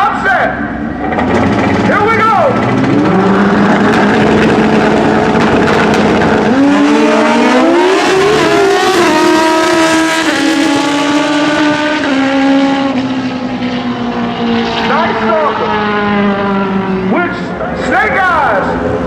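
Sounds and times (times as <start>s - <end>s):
drag racing motorcycles accelerating: 0.6s - 19.0s.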